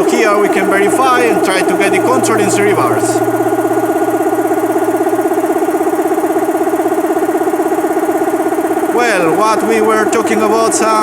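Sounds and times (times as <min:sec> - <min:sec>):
compressor pulsing hum: 0:00.0 - 0:11.0.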